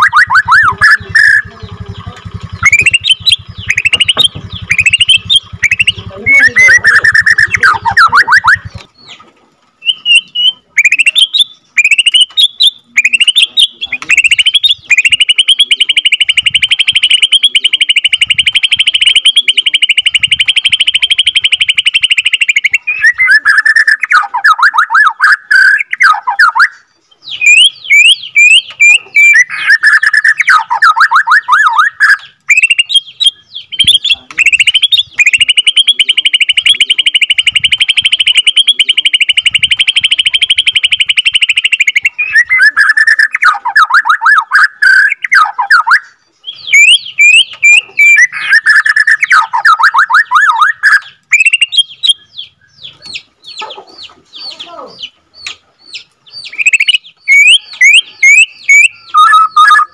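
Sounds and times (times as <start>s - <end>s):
songbird singing with trills: 0.0s - 59.9s.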